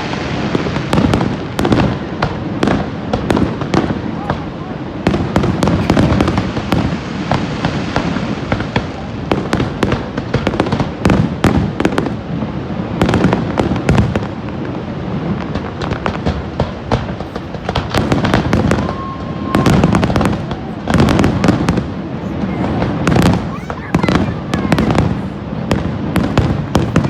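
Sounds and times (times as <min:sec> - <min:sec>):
fireworks booming and crackling: 0:00.0 - 0:27.0.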